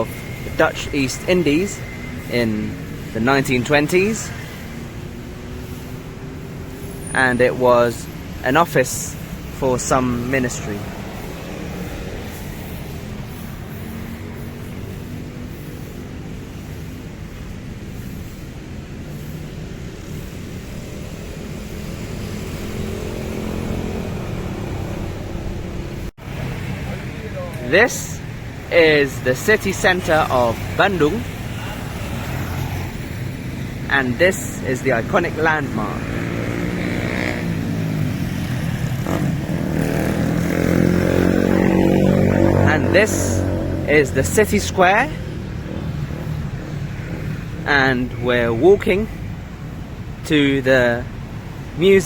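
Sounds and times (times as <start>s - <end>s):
passing motor vehicles: 0.0s - 52.0s
street traffic: 0.0s - 52.0s.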